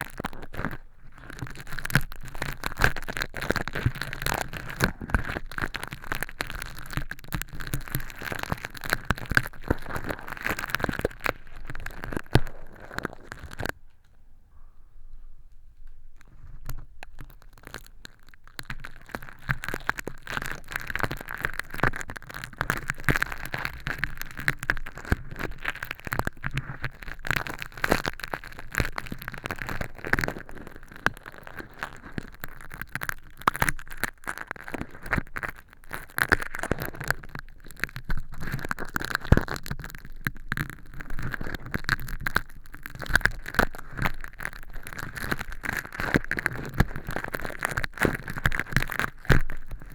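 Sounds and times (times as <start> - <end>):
tweezers crackling in fake earwax: 0.1 - 13.8, 16.2 - 49.9.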